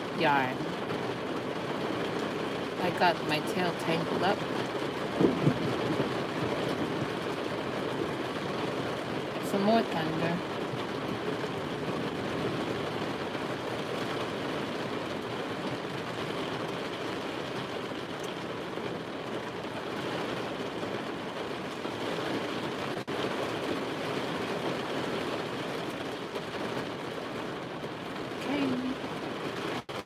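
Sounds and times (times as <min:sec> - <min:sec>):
heavy rain drumming on vehicle: 0:00.0 - 0:30.0.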